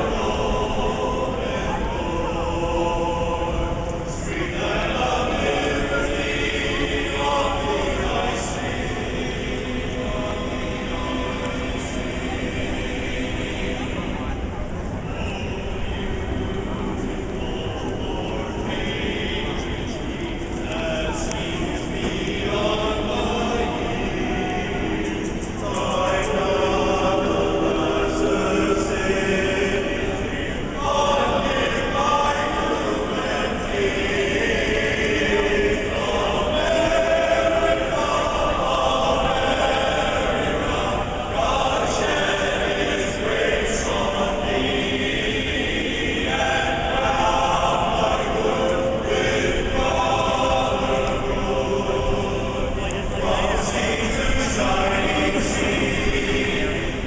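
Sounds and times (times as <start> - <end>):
choir singing in unison: 0.0 - 57.0.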